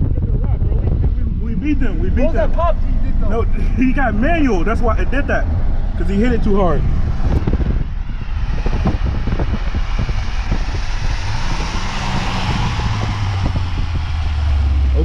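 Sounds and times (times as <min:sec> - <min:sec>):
car engine accelerating: 0:00.0 - 0:15.0
wind and road noise: 0:00.0 - 0:15.0.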